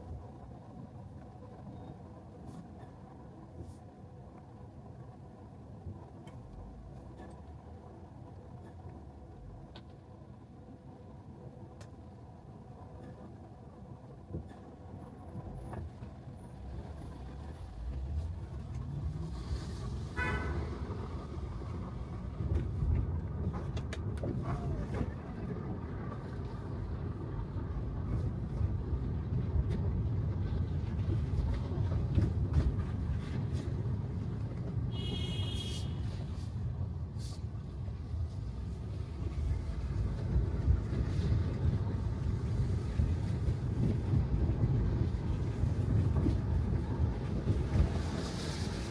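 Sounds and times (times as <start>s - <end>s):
car tyres on wet road: 0.0s - 48.9s.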